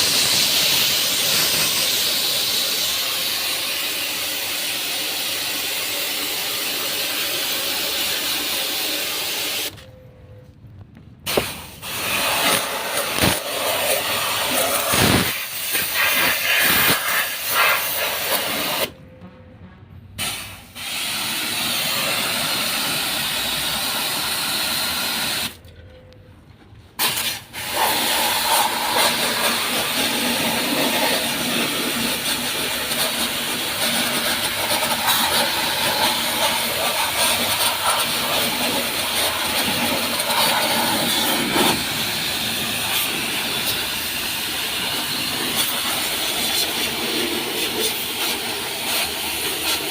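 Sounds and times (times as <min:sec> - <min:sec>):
high-pressure water spray hissing: 0:00.0 - 0:09.8, 0:11.3 - 0:18.9, 0:20.2 - 0:25.6, 0:27.0 - 0:49.9.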